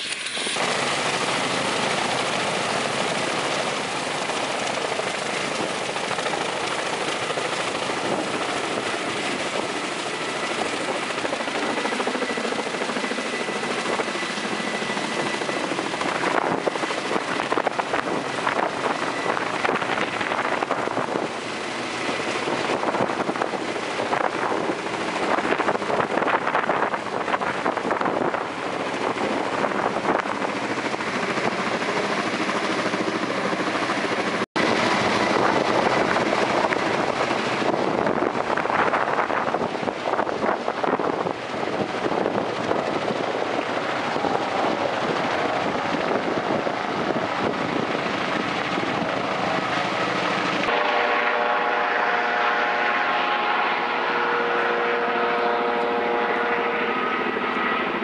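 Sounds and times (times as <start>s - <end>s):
helicopter turbines and rotors: 0.0s - 51.3s, 55.7s - 58.0s.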